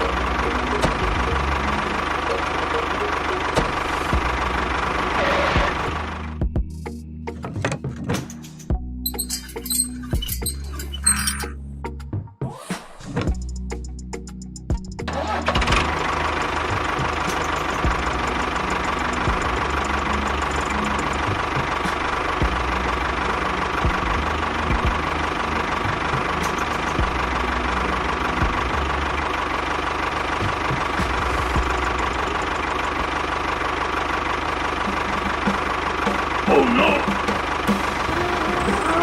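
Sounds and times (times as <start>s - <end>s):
small engine rattling drone: 0.0s - 7.6s, 13.3s - 39.0s.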